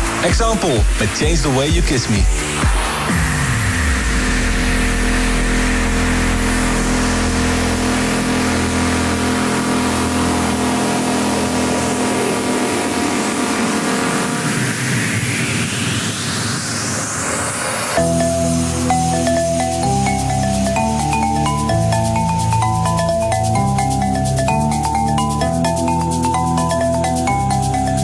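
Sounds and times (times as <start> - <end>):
electronic bass: 0.0 - 16.6, 18.0 - 28.0
rising noise sweep: 0.0 - 28.0
held synth chord: 2.3 - 16.2, 17.9 - 28.0.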